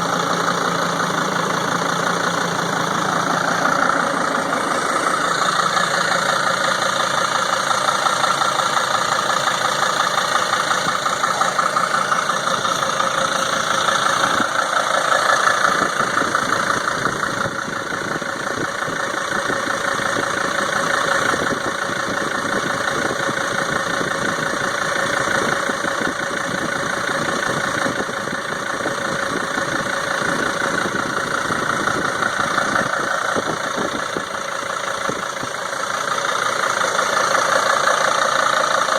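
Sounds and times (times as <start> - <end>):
engine knocking and ticking: 0.0 - 38.9
van engine idling: 0.0 - 38.9.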